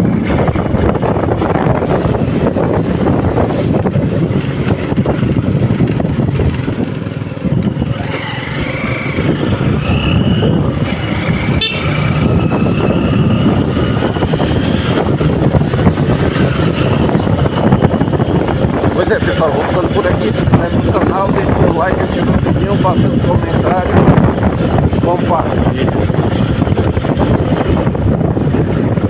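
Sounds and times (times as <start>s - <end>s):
vehicle engine running: 0.0s - 29.0s
wind buffeting microphone: 0.0s - 29.0s.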